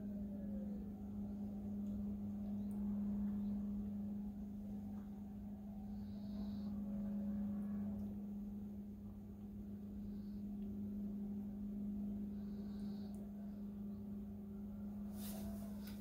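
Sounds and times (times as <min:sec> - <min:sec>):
faint room rumble: 0:00.0 - 0:16.0
steady low hum: 0:00.0 - 0:16.0.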